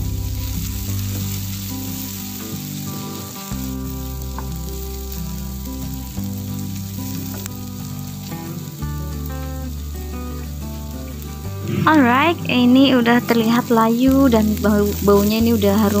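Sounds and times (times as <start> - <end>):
background music with bass notes: 0.0 - 16.0
onions sizzling in frying pan: 0.0 - 16.0.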